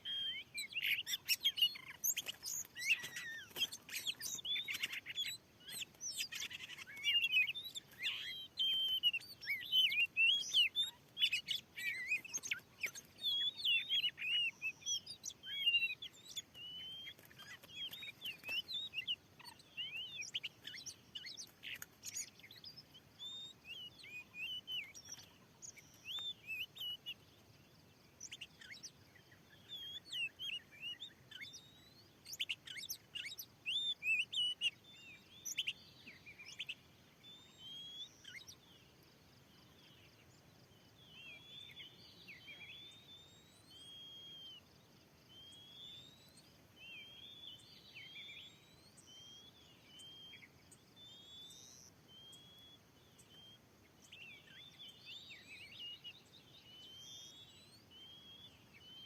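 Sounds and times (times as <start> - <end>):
bird singing varied whistles: 0.0 - 27.2, 28.2 - 38.6, 41.0 - 59.0.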